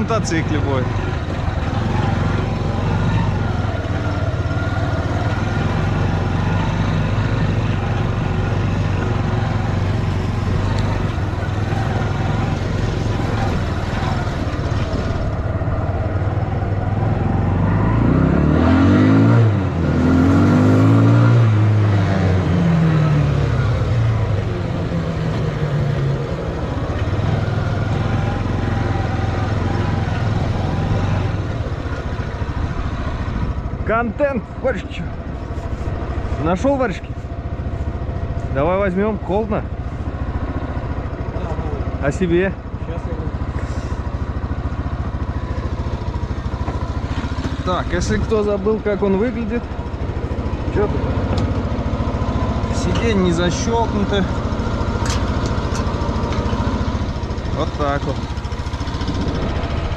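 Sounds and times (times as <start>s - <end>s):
small engine idling and revving: 0.0s - 59.9s.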